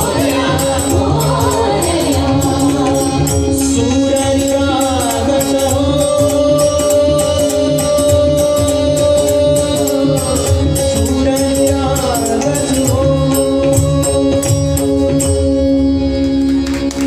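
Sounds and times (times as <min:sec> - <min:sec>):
tabla strokes: 0:00.0 - 0:17.0.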